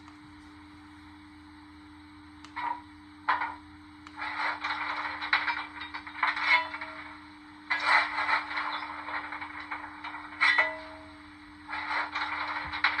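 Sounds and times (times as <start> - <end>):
steady low hum: 0.0 - 13.0
steam hiss and clatter: 2.6 - 13.0.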